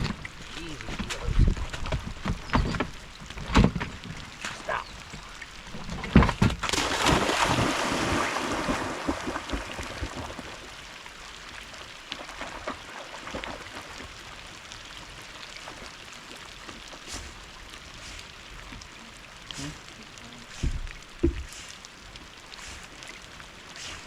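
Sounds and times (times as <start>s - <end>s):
rain: 0.0s - 24.0s
water splashing: 0.0s - 24.0s
wind: 0.0s - 24.0s.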